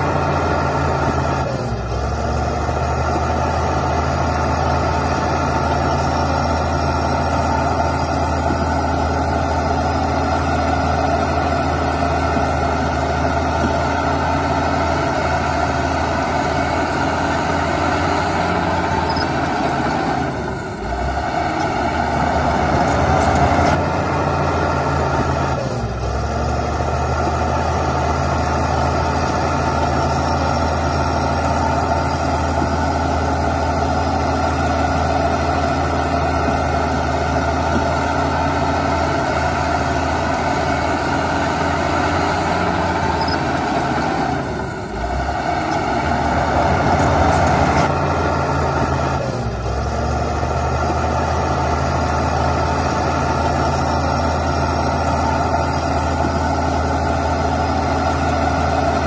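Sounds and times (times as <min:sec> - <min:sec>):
heavy diesel machinery engine: 0:00.0 - 0:59.0.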